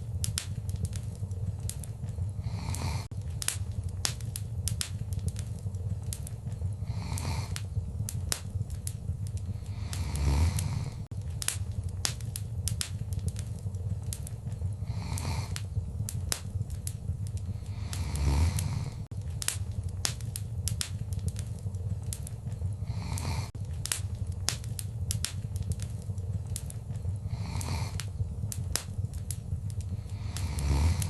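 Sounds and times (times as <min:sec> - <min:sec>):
low fire rumble: 0:00.0 - 0:31.0
wood fire crackling: 0:00.0 - 0:31.0.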